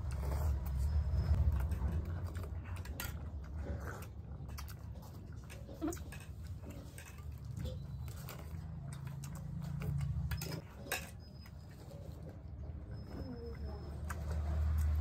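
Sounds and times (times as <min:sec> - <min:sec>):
chewing food: 0:00.0 - 0:15.0.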